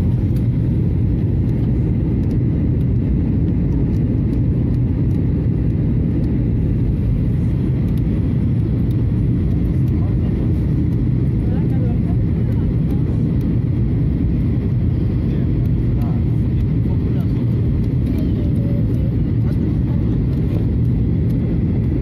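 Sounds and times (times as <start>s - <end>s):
airflow over airframe: 0.0s - 22.0s
airplane cabin engine rumble: 0.0s - 22.0s.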